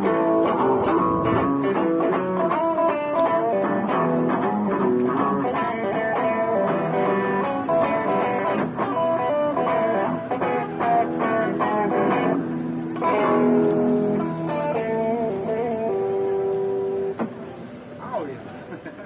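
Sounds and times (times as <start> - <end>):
guitar music: 0.0 - 18.0.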